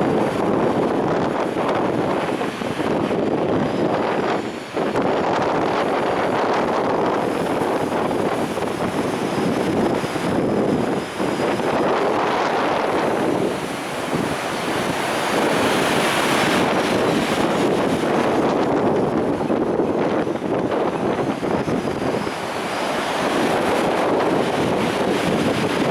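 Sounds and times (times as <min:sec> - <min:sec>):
heavy surf: 0:00.0 - 0:25.9
wind buffeting microphone: 0:00.0 - 0:25.9.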